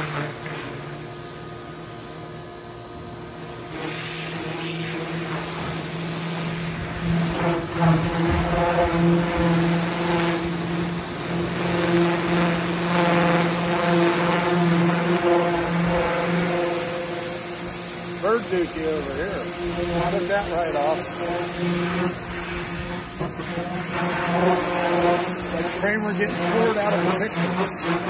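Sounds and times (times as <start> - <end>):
water spray hissing on metal: 0.0 - 1.5, 3.6 - 28.0
pressure washer humming: 0.0 - 28.0.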